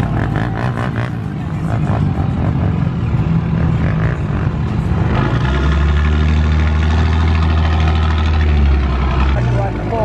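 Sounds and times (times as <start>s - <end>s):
truck engine low drone: 0.0s - 10.0s.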